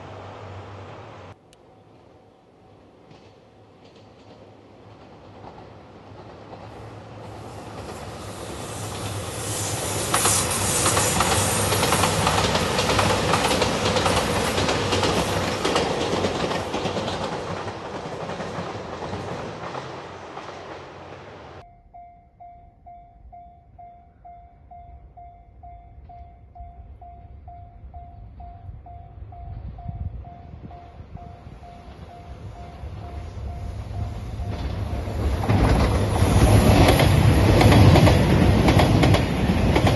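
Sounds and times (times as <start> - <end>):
diesel train passing: 0.0 - 39.9.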